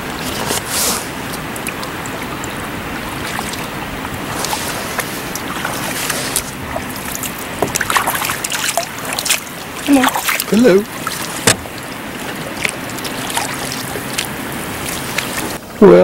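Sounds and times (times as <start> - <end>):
paddle blades dipping: 0.0 - 16.0
water trickling off paddles: 0.0 - 16.0
water wash: 0.0 - 16.0.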